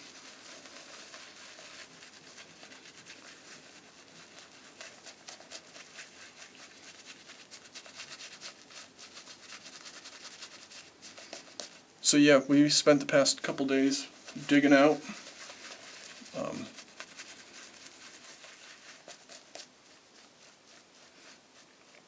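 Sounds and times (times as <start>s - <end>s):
shaving brush swishing lather: 0.0s - 22.0s.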